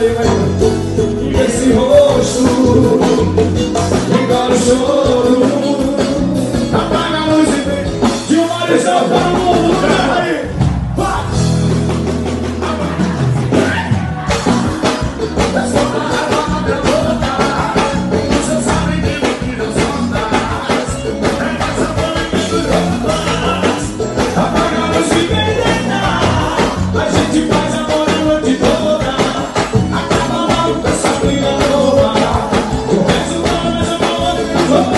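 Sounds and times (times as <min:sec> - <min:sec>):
band music with singing: 0:00.0 - 0:34.9
dance percussion beat: 0:00.0 - 0:34.9.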